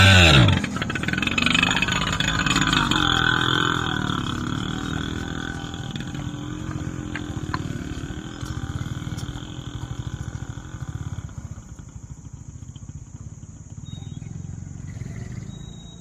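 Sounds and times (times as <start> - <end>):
vehicle engine throbbing: 0.0 - 16.0.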